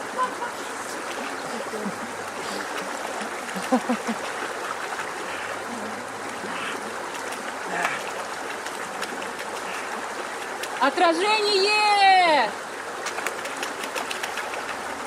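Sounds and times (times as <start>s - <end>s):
rushing water-like noise: 0.0s - 15.0s.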